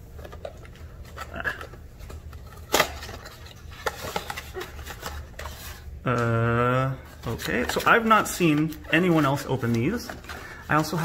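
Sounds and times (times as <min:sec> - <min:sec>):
cardboard rustling and scraping: 0:00.1 - 0:05.9, 0:07.1 - 0:11.0.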